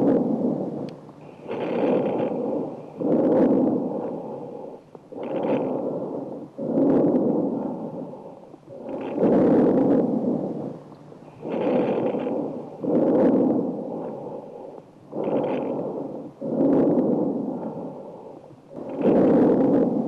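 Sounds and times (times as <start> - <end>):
noisy breathing through stethoscope: 0.0 - 20.0.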